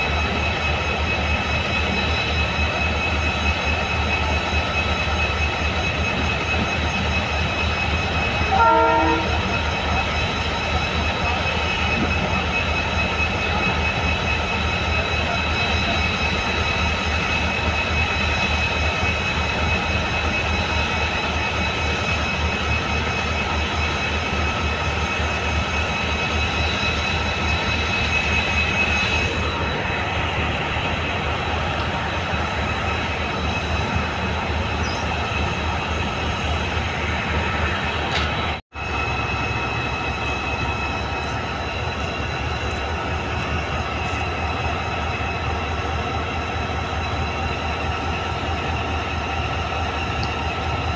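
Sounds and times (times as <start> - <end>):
diesel locomotive engine throb: 0.0 - 50.9
high engine whine: 0.0 - 50.9.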